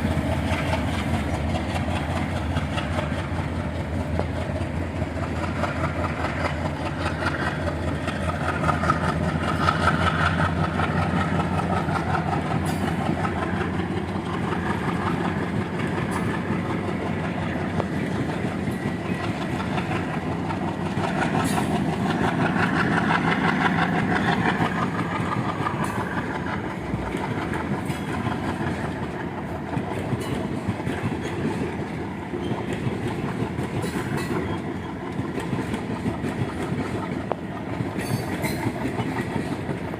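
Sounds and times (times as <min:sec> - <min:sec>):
train wheels clattering over joints: 0:00.0 - 0:39.9.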